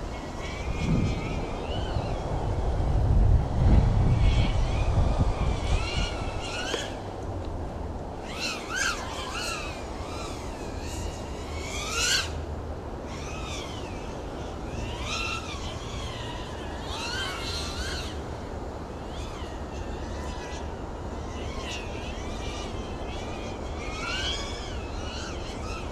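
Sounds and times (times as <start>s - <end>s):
drone propellers whining: 0.0s - 25.9s
wind rumbling on microphone: 0.0s - 25.9s.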